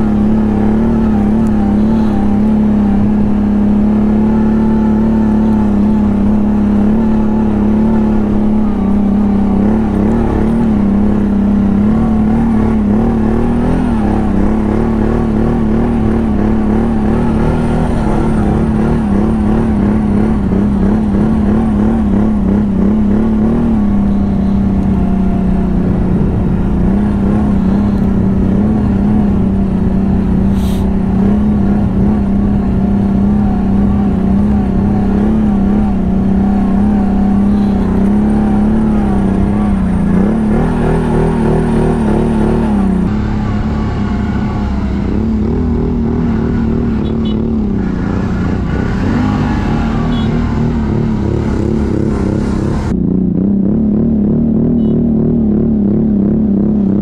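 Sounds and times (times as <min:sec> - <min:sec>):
atv engine running under load: 0:00.0 - 0:57.0.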